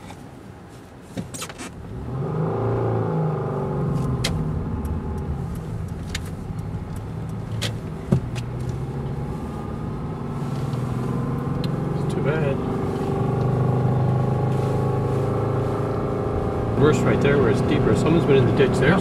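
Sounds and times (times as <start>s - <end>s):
car engine from inside cabin: 1.5s - 19.0s.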